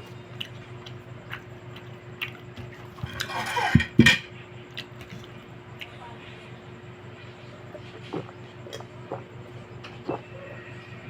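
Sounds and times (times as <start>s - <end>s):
close-up eating sounds: 0.0s - 11.0s
steady low hum: 0.0s - 11.0s.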